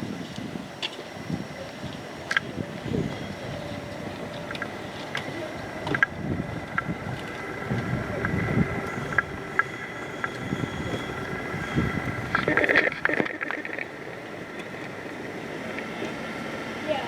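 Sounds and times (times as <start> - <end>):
train running on tracks: 0.0 - 17.0
wind buffeting microphone: 0.0 - 17.0.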